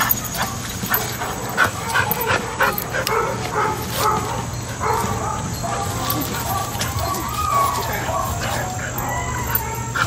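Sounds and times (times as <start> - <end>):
dog yapping: 0.0 - 10.0.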